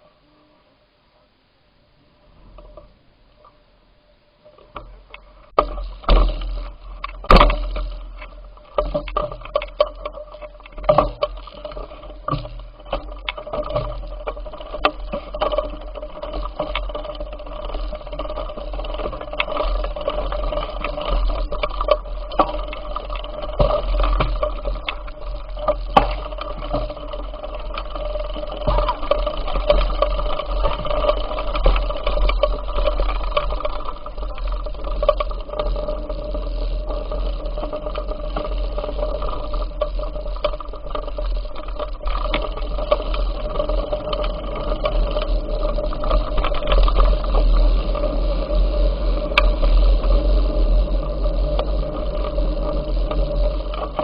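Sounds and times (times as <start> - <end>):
steady hum: 0.0 - 54.0
bicycle rattling knocks: 4.4 - 54.0.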